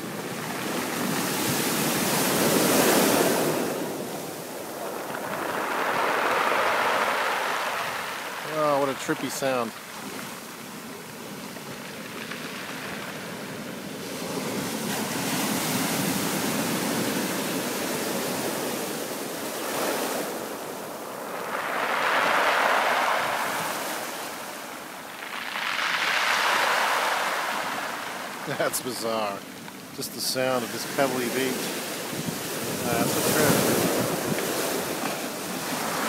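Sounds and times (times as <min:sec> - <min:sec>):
waves breaking on pebbles: 0:00.0 - 0:36.0.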